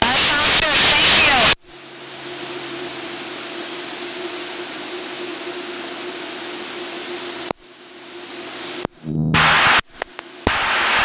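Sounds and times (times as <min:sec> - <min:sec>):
plane cockpit engine noise: 0:00.0 - 0:11.0
low hum: 0:01.6 - 0:11.0.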